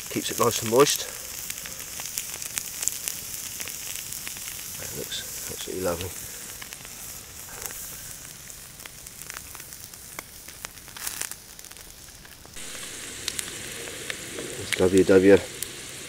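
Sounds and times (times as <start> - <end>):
campfire crackling and popping: 0.0 - 16.0
frying hiss: 0.0 - 16.0
steak sizzling on a grill: 0.0 - 16.0.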